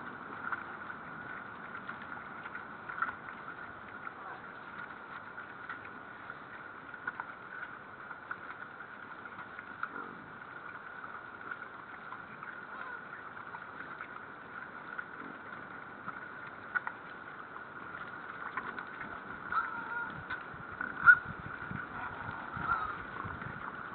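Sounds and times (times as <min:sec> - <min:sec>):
steady high hum: 0:00.0 - 0:23.9.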